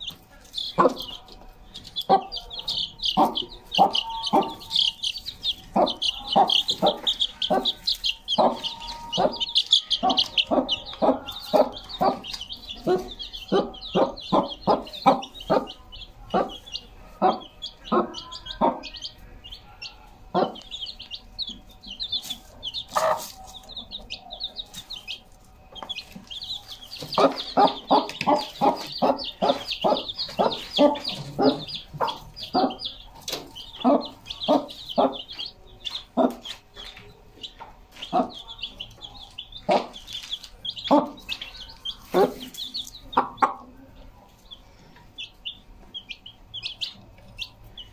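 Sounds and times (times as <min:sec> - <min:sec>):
chicks peeping: 0:00.0 - 0:47.9
hen clucking: 0:00.0 - 0:47.9.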